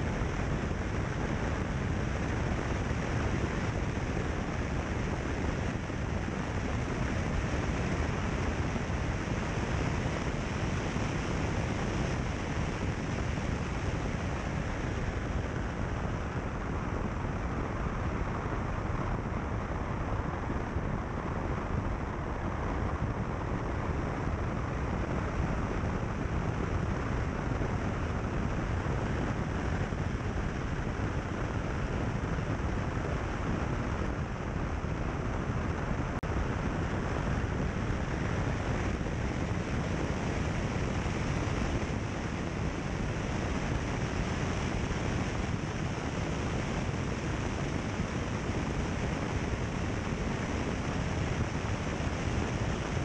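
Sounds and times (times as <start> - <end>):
wind on microphone: 0.0 - 53.0.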